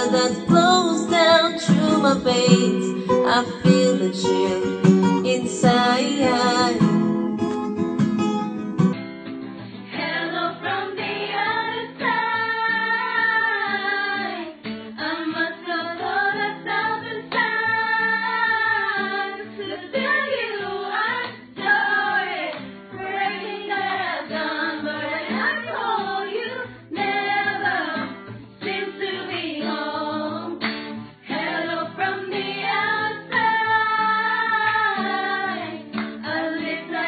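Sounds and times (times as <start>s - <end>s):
women singing together: 0.0s - 7.1s, 9.9s - 37.0s
acoustic guitar: 0.0s - 37.0s.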